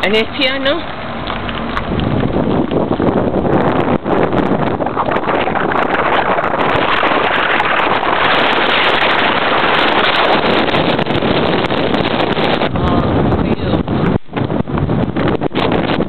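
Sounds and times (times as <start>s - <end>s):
car road rumble on dirt: 0.0s - 16.0s
wind noise on microphone: 0.0s - 16.0s.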